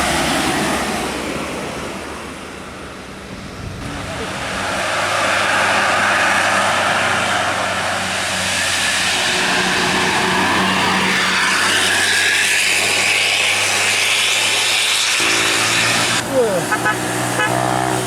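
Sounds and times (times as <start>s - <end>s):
bus engine: 0.0s - 18.0s
road noise: 0.0s - 18.0s.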